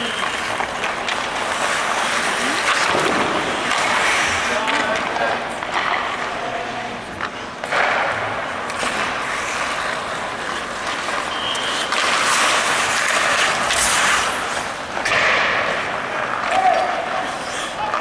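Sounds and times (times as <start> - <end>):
ice skates scraping ice: 0.0 - 18.0.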